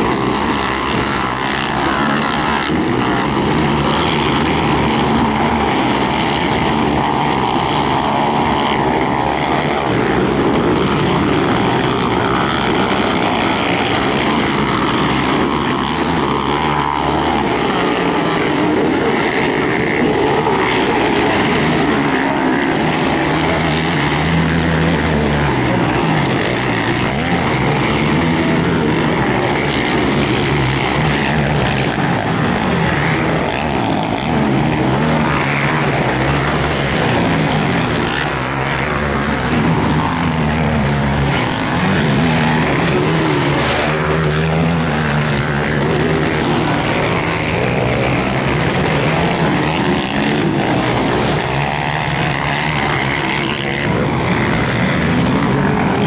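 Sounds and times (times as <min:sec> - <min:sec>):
quad bike engines revving: 0:00.0 - 0:56.0.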